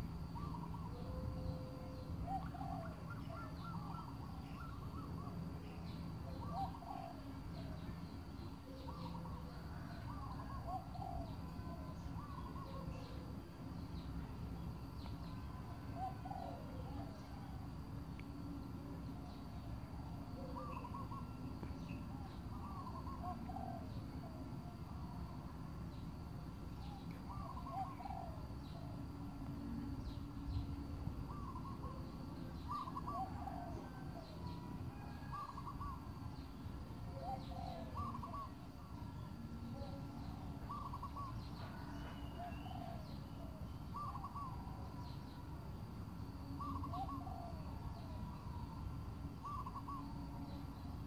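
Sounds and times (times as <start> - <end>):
birds hooting and cooing: 0.0 - 51.0.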